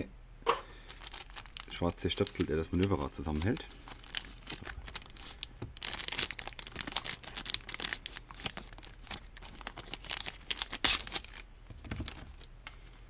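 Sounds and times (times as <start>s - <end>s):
plastic bag crinkling: 0.7s - 13.0s.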